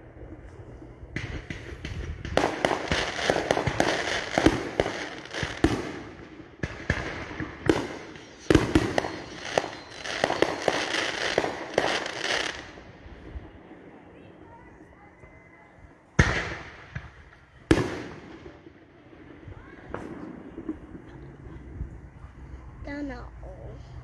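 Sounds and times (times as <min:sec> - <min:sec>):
fireworks crackling and banging: 0:00.0 - 0:23.5.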